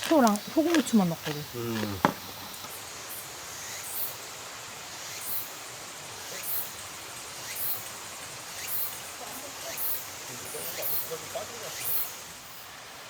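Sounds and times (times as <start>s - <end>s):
insect chirping: 0.0s - 13.0s
steady background hiss: 0.0s - 13.0s.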